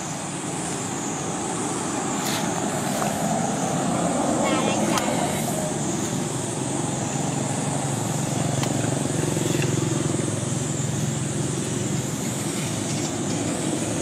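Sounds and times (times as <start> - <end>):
high hiss: 0.0 - 14.0
vehicle engine humming: 0.0 - 14.0.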